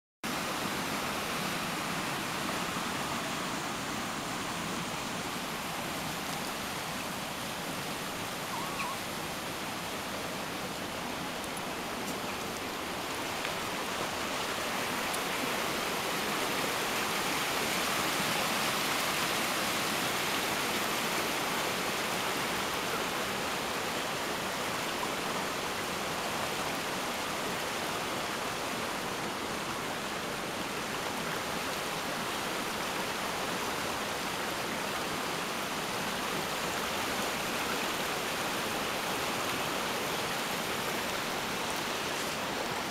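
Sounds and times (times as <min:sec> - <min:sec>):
stream rushing: 0:00.2 - 0:42.9.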